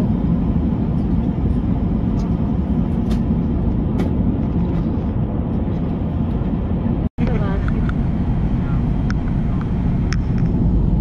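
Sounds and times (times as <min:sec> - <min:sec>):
airliner cabin noise in flight: 0:00.0 - 0:11.0.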